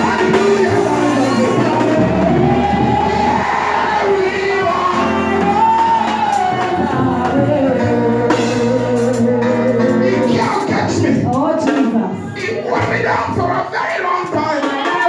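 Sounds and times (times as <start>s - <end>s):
steady bass line: 0.0s - 13.6s
gospel singing: 0.0s - 15.0s.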